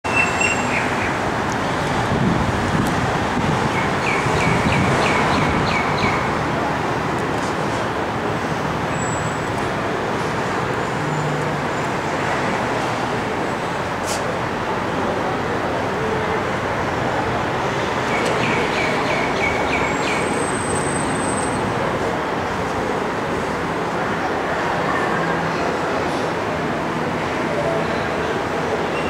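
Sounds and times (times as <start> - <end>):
street traffic roar: 0.0 - 29.0.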